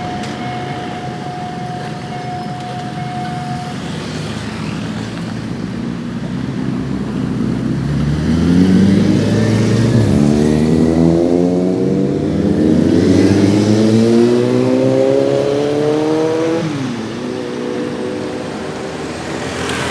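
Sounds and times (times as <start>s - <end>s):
diesel railcar engines revving: 0.0s - 19.9s.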